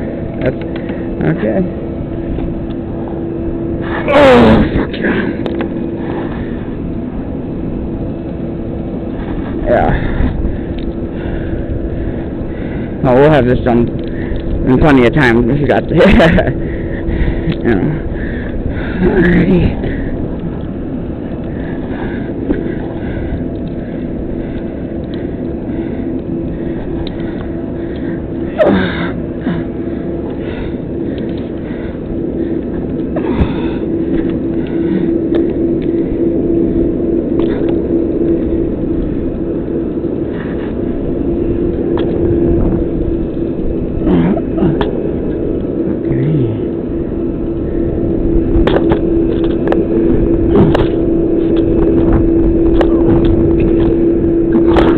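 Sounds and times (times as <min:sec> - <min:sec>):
crane engine droning: 0:00.0 - 0:54.9.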